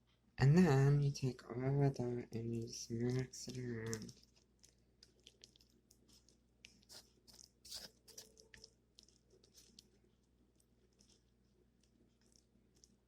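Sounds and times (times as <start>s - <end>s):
wet clicks of food being mixed: 1.0s - 13.0s.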